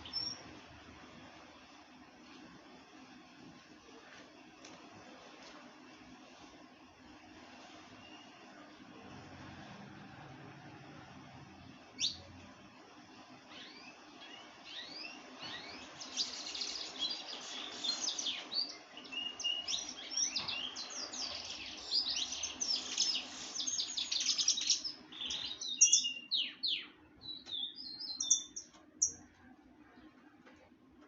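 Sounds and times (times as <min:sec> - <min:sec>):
songbirds chirping and trilling: 0:00.0 - 0:05.0, 0:05.8 - 0:31.0
faint low hum: 0:00.0 - 0:31.0.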